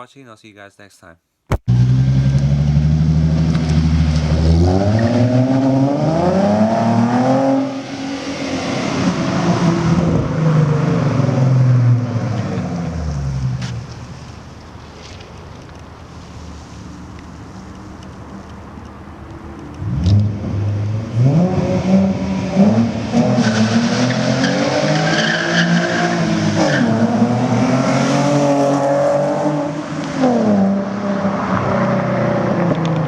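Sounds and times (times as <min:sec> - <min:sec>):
car engine accelerating hard: 0:01.7 - 0:14.1, 0:17.2 - 0:33.0.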